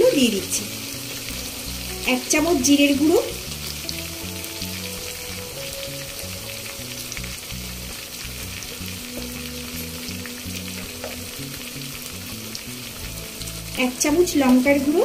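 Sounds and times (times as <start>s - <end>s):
hot oil sizzling and crackling: 0.0s - 15.0s.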